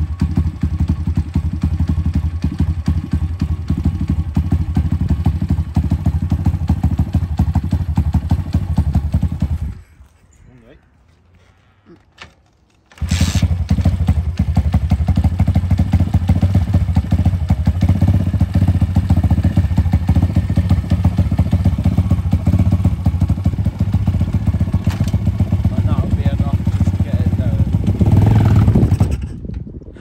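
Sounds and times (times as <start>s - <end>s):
motorbike engine idling: 0.0s - 10.1s, 12.9s - 30.0s.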